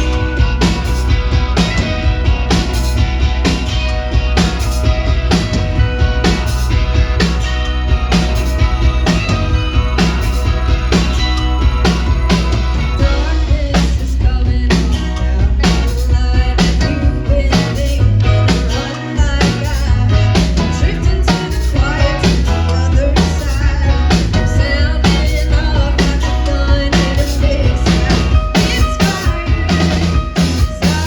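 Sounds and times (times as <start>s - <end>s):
drum kit beat: 0.0s - 31.0s
rock band playing live: 0.0s - 31.0s.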